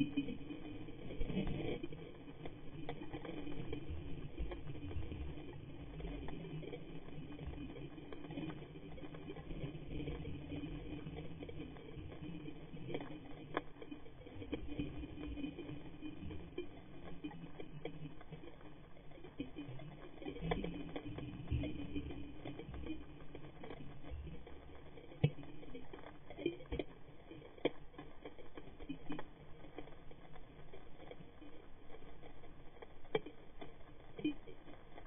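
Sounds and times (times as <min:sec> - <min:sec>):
low underwater rumble: 0:00.0 - 0:35.0.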